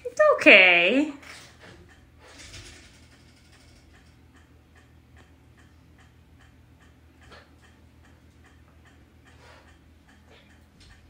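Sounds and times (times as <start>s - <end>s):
low steady hum: 0.0s - 11.0s
faint even ticking: 1.8s - 11.0s.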